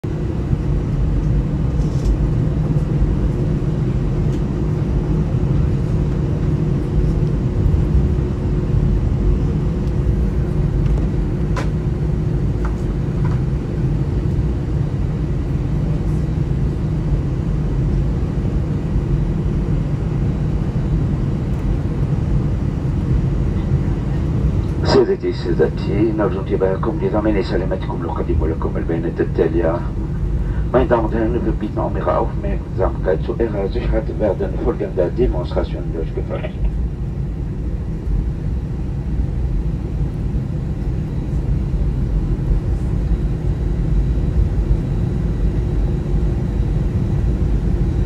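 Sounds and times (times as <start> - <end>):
airliner cabin rumble: 0.0 - 48.0
steady hum: 0.0 - 48.0.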